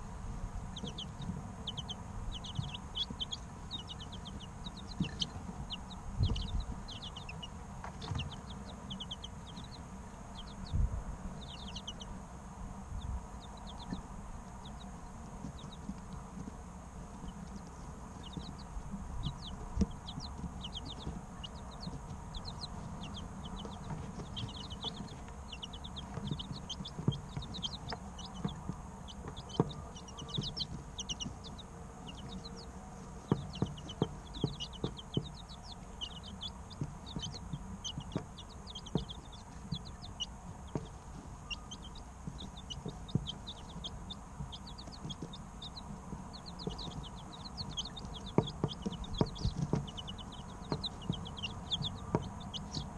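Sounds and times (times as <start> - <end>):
chicks chirping: 0.0 - 52.9
low steady hum: 0.0 - 52.9.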